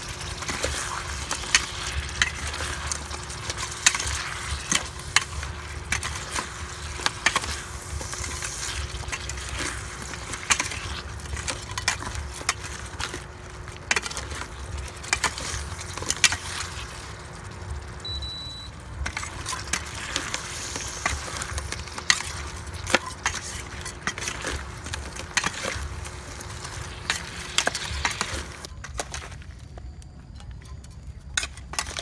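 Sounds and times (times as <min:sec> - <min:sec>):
sauce sizzling: 0:00.0 - 0:28.7.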